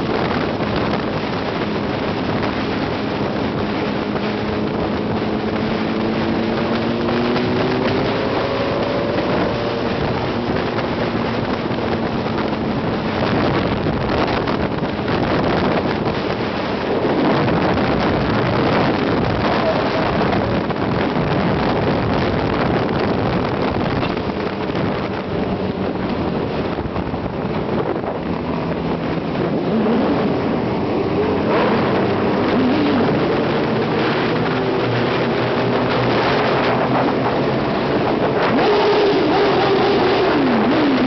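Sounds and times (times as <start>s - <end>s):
motorcycle engines revving in tunnel: 0.0s - 41.0s.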